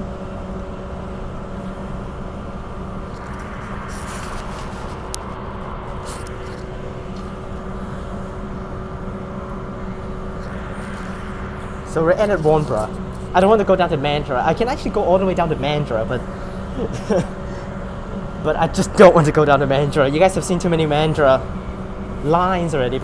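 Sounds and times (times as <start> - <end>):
electrical hum: 0.0 - 23.0
train running rumble: 0.0 - 23.0.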